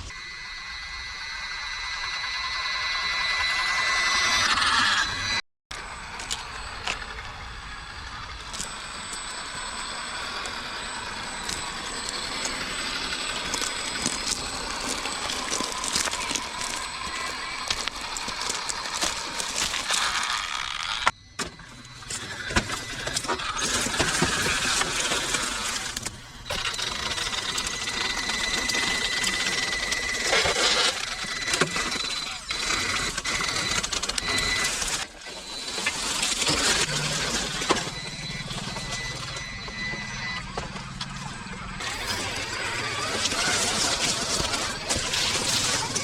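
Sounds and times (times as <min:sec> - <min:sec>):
electric motors whining: 0:00.0 - 0:46.0.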